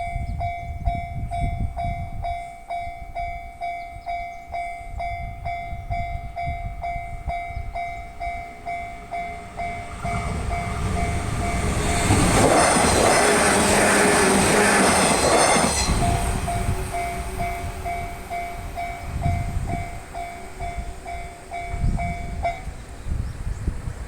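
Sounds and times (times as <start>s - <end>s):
level-crossing alarm bell ringing: 0.0s - 22.7s
approaching train: 0.0s - 24.0s.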